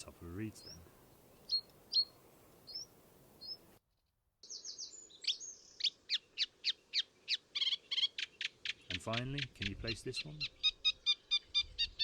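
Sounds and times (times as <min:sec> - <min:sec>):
reed warbler chugging song: 0:00.0 - 0:03.7, 0:04.4 - 0:12.0
reed bunting song: 0:00.0 - 0:03.8, 0:04.4 - 0:12.0.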